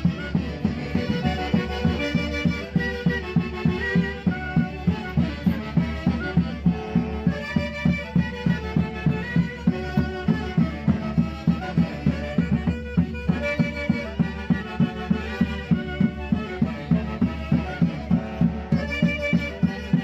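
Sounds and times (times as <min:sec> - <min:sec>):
saxophones and clarinets melody: 0:00.0 - 0:20.0.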